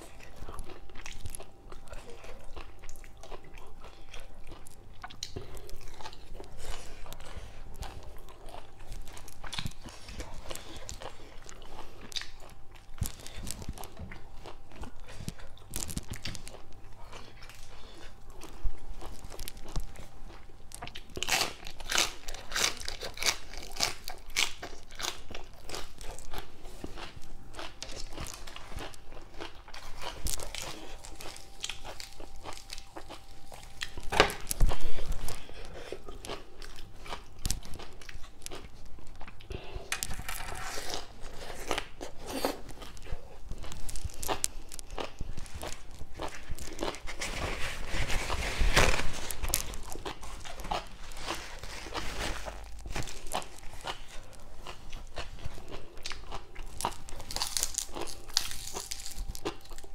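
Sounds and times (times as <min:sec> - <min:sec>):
chewing crunchy vegetables: 0:00.0 - 0:59.9.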